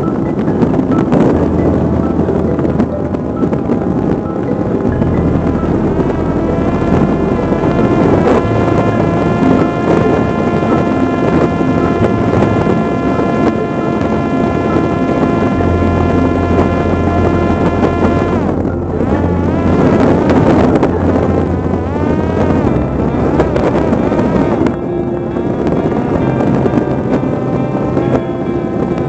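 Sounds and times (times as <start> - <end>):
drone motor and propeller whining: 0.0 - 29.0
wind rushing across microphone: 0.0 - 29.0.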